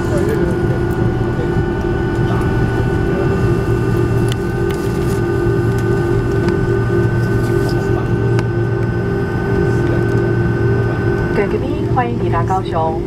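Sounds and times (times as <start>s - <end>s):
jet engines idling hum and whine: 0.0s - 13.0s.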